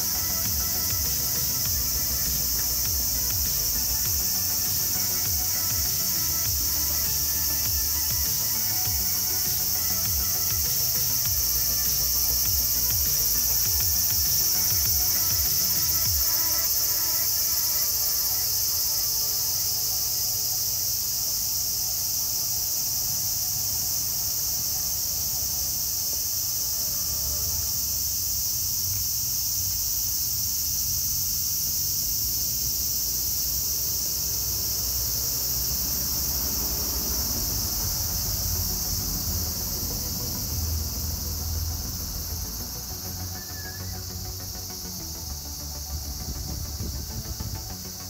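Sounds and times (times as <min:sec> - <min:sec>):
cicadas shrilling: 0:00.0 - 0:48.0.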